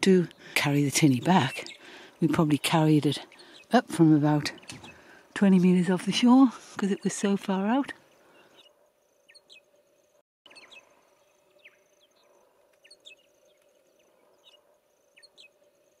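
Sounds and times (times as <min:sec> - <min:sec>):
faint small birds chirping: 0:00.0 - 0:16.0.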